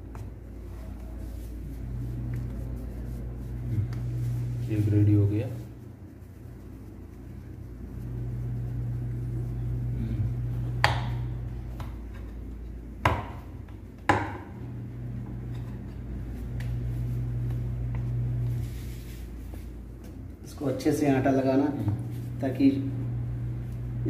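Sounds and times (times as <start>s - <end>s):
low hum: 0.0s - 20.5s, 21.8s - 24.0s.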